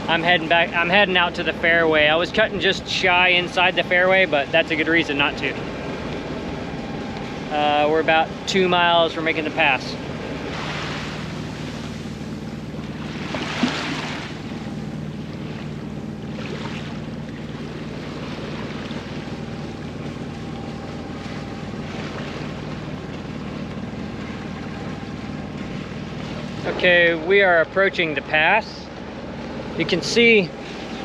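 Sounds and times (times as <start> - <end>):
boat engine running: 0.0 - 31.0
water rushing along hull: 0.0 - 31.0.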